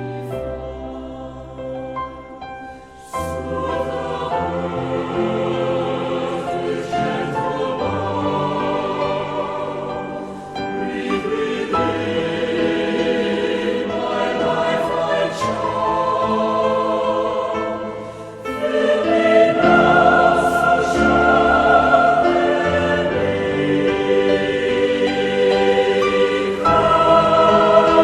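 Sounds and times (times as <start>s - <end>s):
choir singing a sacred song: 0.0s - 28.0s
musical accompaniment: 0.0s - 28.0s.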